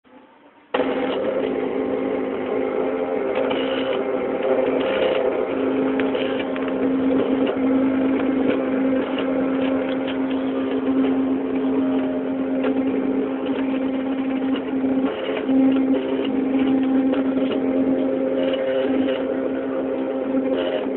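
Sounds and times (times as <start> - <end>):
machine motor hum: 0.1 - 20.9.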